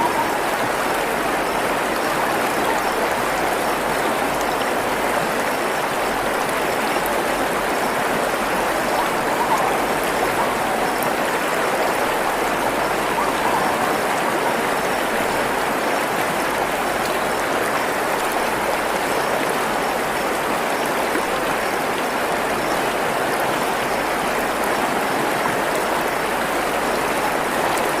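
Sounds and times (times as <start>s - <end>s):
stream flowing over rocks: 0.0s - 28.0s.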